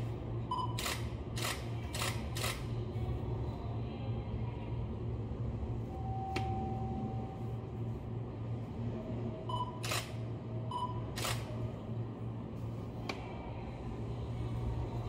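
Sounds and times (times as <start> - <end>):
stopped electric train humming: 0.0 - 15.0.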